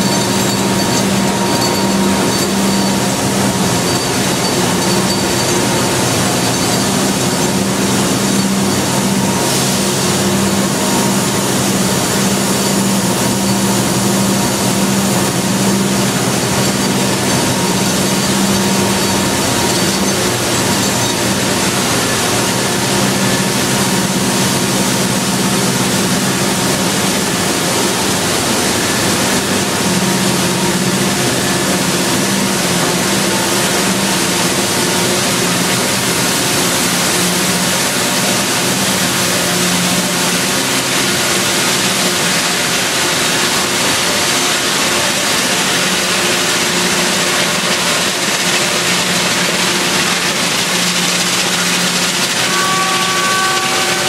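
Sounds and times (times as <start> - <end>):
factory machinery noise: 0.0 - 54.0.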